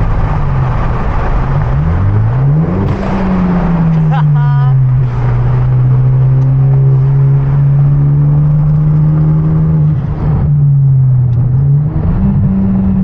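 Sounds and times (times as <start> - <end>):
car engine droning under load: 0.0 - 13.0.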